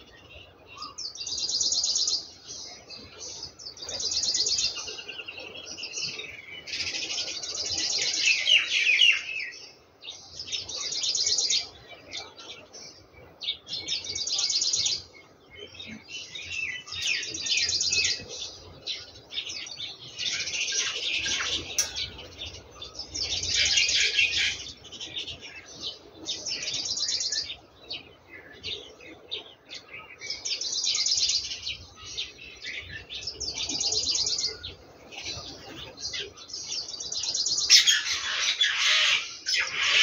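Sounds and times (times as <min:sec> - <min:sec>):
songbirds singing high trills: 0:00.0 - 0:40.0.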